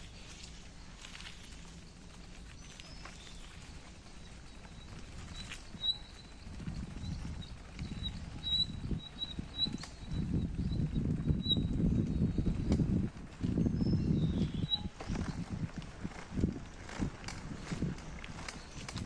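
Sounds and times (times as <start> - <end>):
bicycle rolling on pavement: 0.0 - 19.0.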